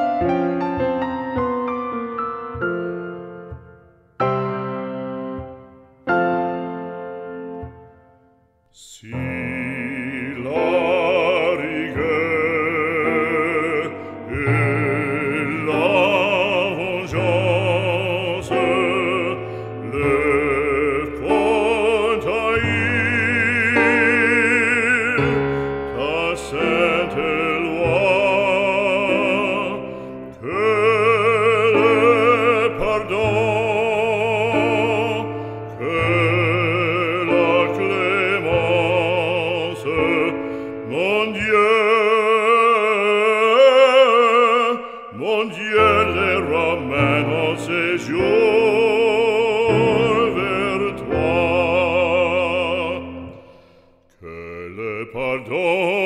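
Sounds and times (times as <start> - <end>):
operatic solo singing: 8.6 - 56.0.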